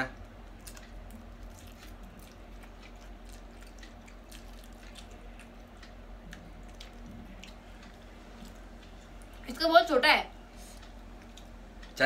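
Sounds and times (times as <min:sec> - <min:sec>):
people chewing noodles: 0:00.0 - 0:09.5, 0:10.6 - 0:12.0
steady low hum: 0:00.0 - 0:12.0.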